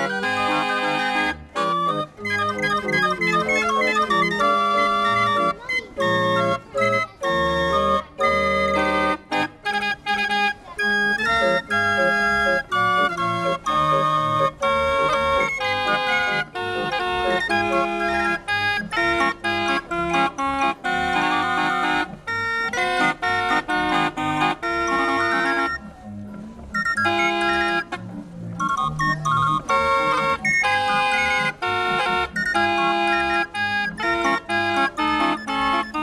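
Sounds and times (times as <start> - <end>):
street organ playing: 0.0 - 36.0.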